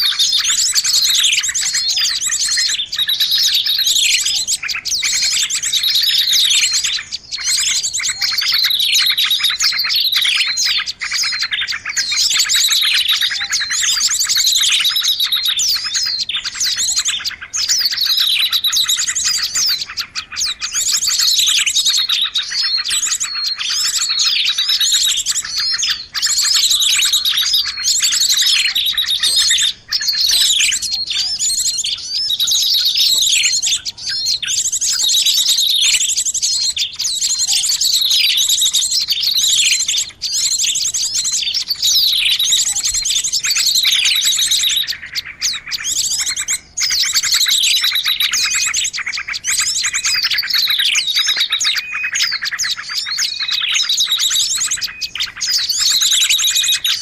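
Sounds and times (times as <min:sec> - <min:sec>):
many small birds chirping: 0:00.0 - 0:57.0.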